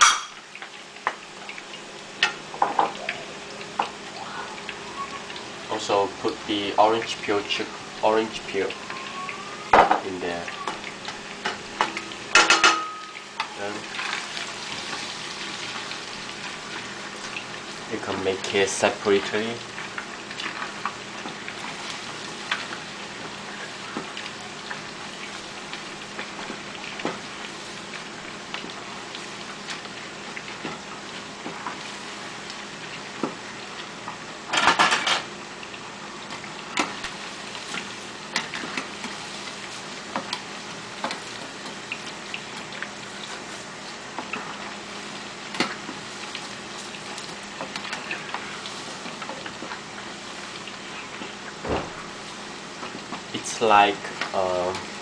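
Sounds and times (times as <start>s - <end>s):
chicken frying in oil: 0.0s - 55.0s.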